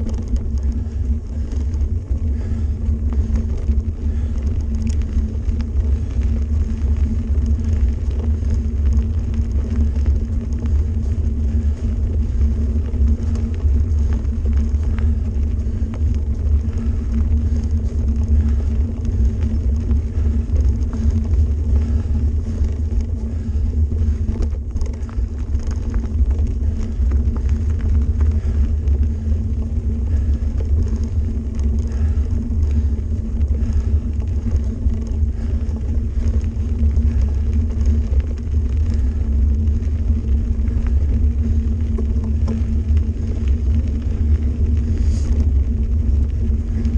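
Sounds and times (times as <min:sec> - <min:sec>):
bike tyres rumbling on dirt: 0:00.0 - 0:46.9.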